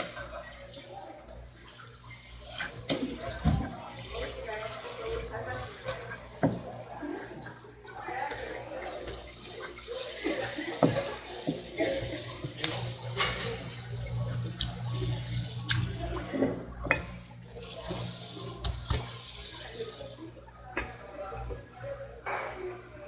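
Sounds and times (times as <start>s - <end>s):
tap water running into sink: 1.3s - 23.0s.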